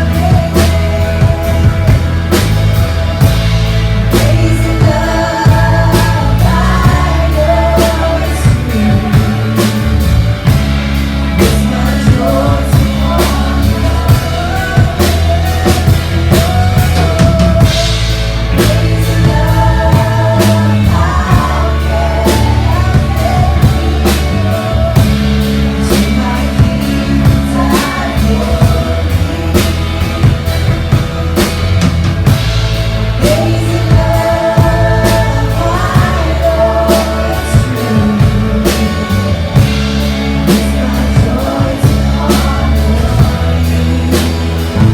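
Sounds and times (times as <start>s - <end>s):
bass: 0.0s - 44.9s
drum kit beat: 0.0s - 44.9s
people singing: 0.0s - 44.9s.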